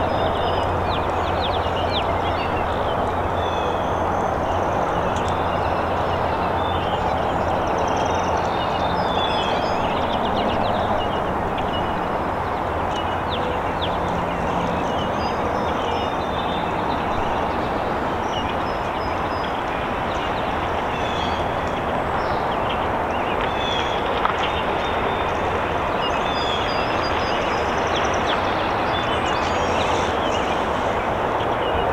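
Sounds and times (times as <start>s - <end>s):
distant freight train rumble: 0.0s - 31.9s.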